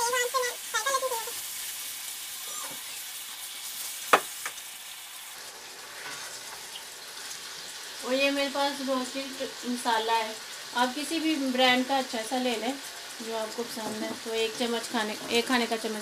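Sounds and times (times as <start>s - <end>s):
mince sizzling in a pot: 0.0s - 16.0s.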